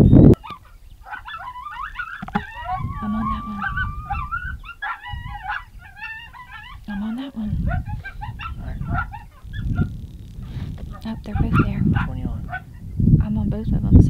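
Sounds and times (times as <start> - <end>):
coyotes howling: 0.0 - 13.0
coyotes yipping: 0.0 - 13.1.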